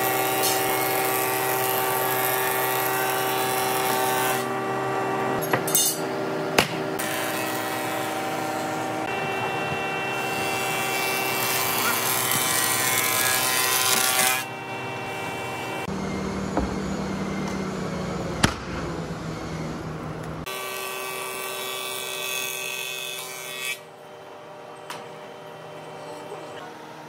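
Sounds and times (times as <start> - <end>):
wood planer running: 0.0 - 5.4, 6.1 - 27.0.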